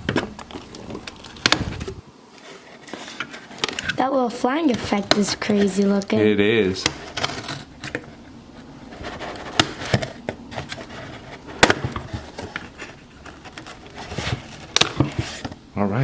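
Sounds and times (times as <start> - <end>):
plastic packaging rustling: 0.0 - 15.7.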